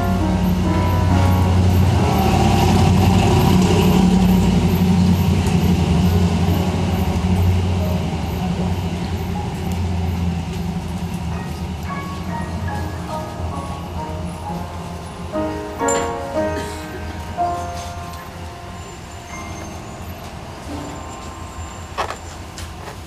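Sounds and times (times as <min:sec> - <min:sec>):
solo piano playing: 0:00.0 - 0:22.6
heavy engine rumbling: 0:00.0 - 0:23.0.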